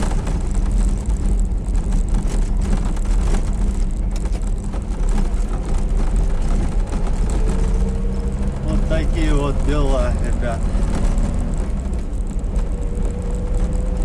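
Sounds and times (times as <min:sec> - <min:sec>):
cargo box creaking and rattling: 0:00.0 - 0:14.0
van engine and road noise: 0:00.0 - 0:14.0.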